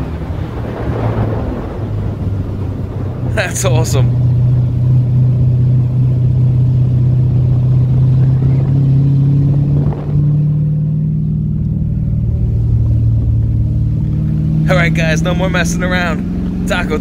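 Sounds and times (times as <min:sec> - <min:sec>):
car engine drone while driving: 0:00.0 - 0:17.0.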